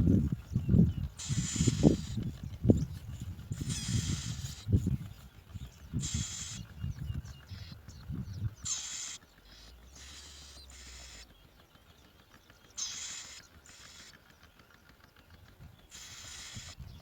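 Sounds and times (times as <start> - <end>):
nestlings begging calls: 0.0 - 14.5, 15.2 - 17.0.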